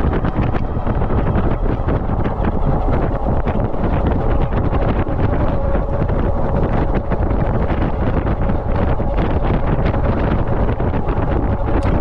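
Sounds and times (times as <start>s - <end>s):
faint steady whine: 0.0s - 12.0s
wind buffeting microphone: 0.0s - 12.0s.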